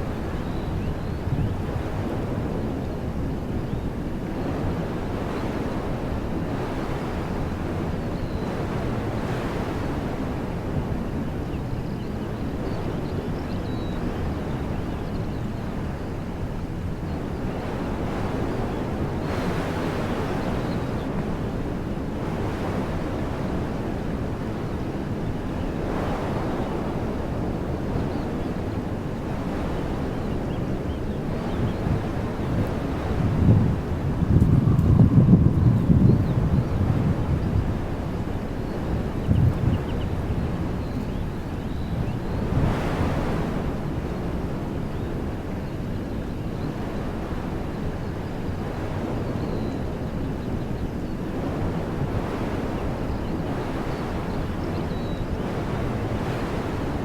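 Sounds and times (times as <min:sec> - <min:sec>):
wind rumble on microphone: 0:00.0 - 0:57.0
wind rushing through trees: 0:00.0 - 0:57.0.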